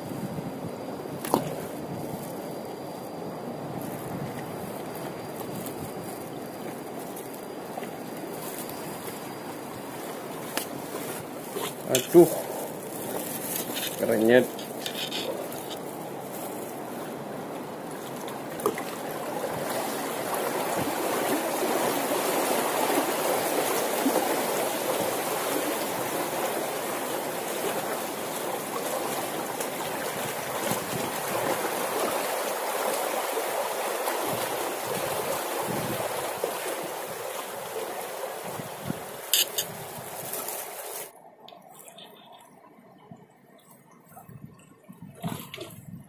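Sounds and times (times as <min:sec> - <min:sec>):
water lapping against hull: 0:00.0 - 0:46.0.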